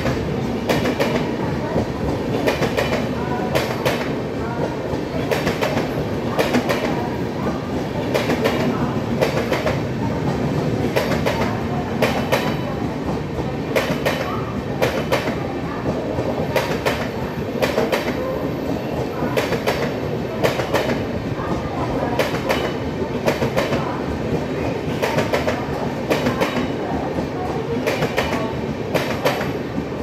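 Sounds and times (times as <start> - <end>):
train coaches rumbling past: 0.0 - 30.0.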